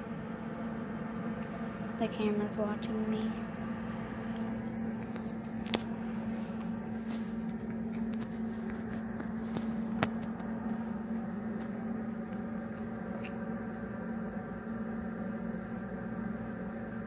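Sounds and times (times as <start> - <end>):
store background hum: 0.0 - 17.0.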